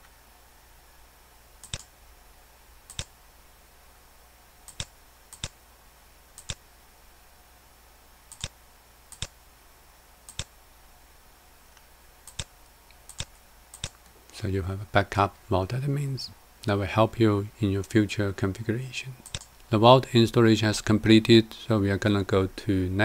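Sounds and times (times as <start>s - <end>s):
faint room hum: 0.0s - 23.0s.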